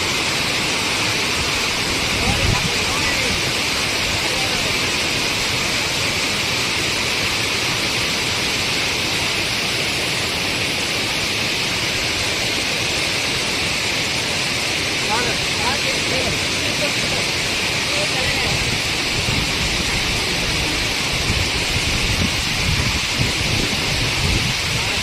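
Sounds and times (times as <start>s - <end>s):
fast-flowing river rushing: 0.0s - 25.0s.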